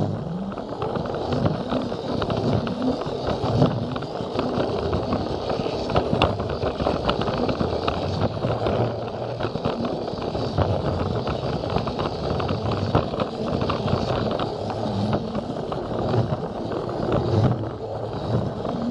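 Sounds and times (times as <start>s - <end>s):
toy train motor hum: 0.0s - 18.9s.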